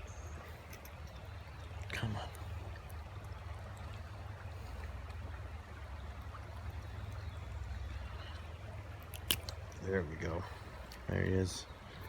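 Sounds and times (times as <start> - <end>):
creek water running over rocks: 0.0 - 12.0.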